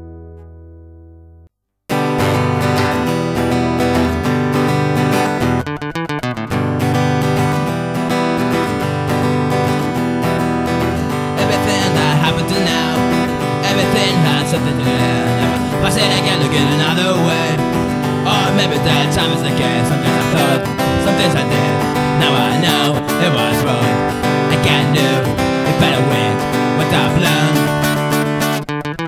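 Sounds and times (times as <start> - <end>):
acoustic guitar chord: 0.0 - 5.7, 6.4 - 28.6
strummed acoustic guitar chords: 1.9 - 29.0.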